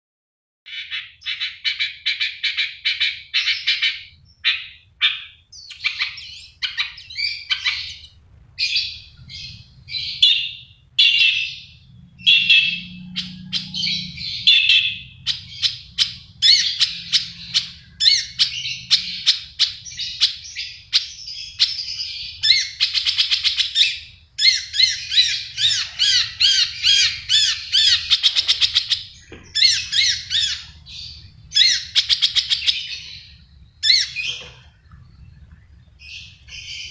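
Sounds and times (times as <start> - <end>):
bird singing with trills: 0.7 - 36.9.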